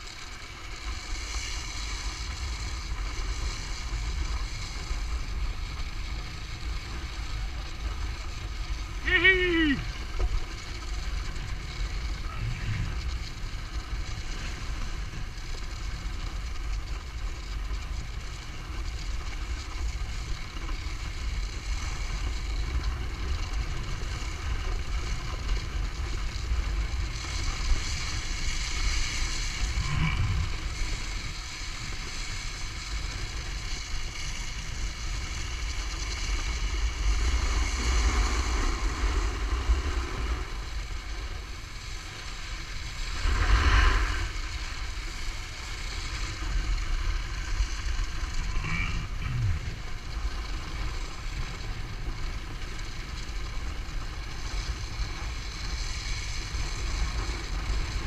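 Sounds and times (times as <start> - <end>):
snowmobile engine running: 0.0 - 17.8, 20.6 - 58.0
skis running over snow: 0.0 - 58.0
wind rushing on microphone: 0.8 - 16.6, 21.2 - 58.0.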